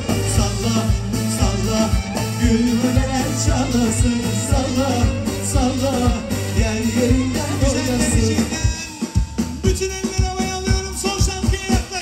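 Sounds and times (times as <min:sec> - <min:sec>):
person singing: 0:00.0 - 0:12.0
pop band playing: 0:00.0 - 0:12.0
steady drum beat: 0:00.0 - 0:12.0.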